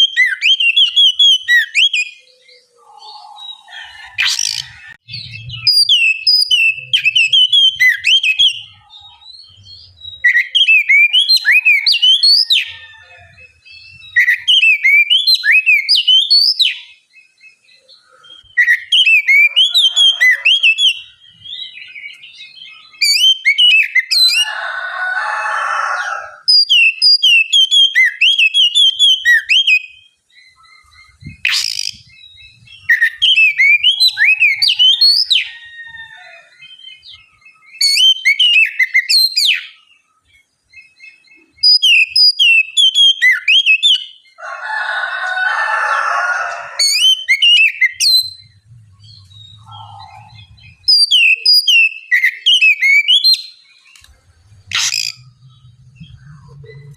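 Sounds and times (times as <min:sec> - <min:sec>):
bird singing whistled phrases: 0:00.0 - 0:12.8, 0:13.6 - 0:17.6, 0:18.4 - 0:24.4, 0:26.5 - 0:35.5, 0:36.6 - 0:39.8, 0:40.7 - 0:44.2, 0:46.8 - 0:54.0.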